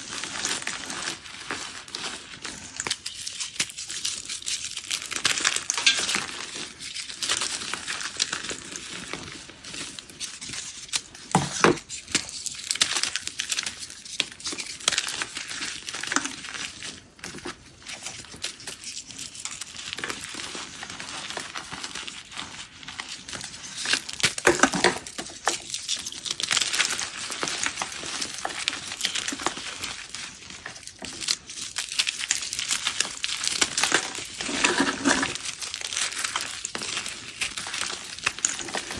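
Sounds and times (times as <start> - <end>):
chalk crunching and crumbling: 0.0 - 38.9.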